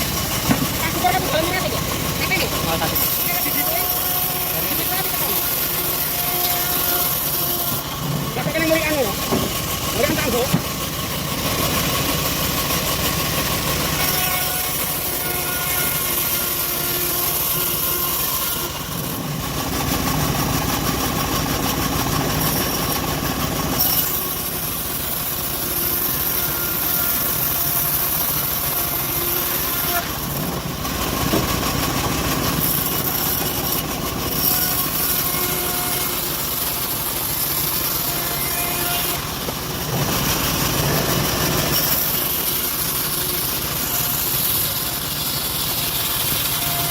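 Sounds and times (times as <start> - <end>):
saw blade cutting wood hiss: 0.0 - 10.8, 11.4 - 19.1, 23.7 - 30.6, 32.0 - 46.9
sawmill engine running: 0.0 - 46.9.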